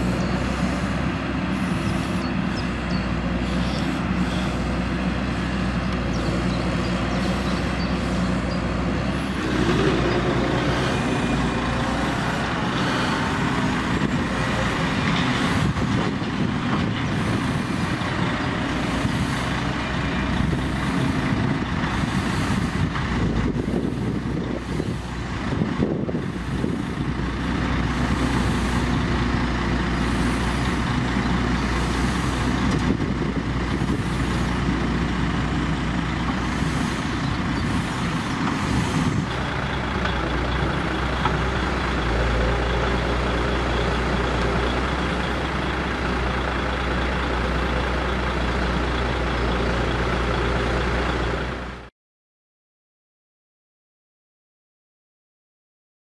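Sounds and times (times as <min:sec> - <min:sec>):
excavator loading soil: 0:00.0 - 0:51.7
diesel engines rumbling: 0:00.0 - 0:51.9.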